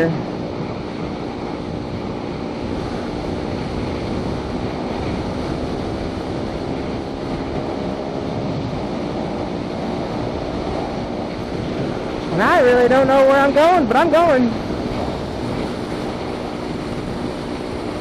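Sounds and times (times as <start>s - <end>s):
motorcycle engine drone: 0.0s - 18.0s
wind rushing on microphone: 0.0s - 18.0s.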